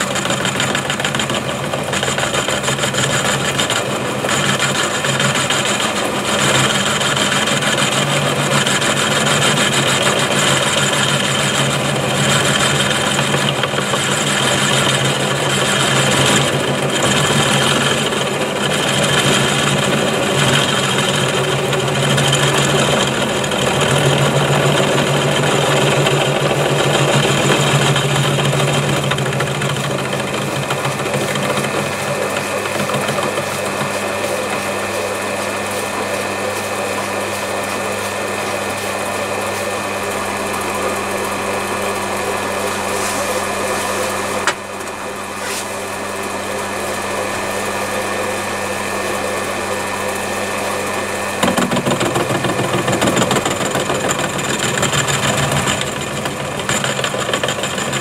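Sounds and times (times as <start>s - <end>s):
end mill cutting steel: 0.0s - 58.0s
milling motor and spindle: 0.0s - 58.0s.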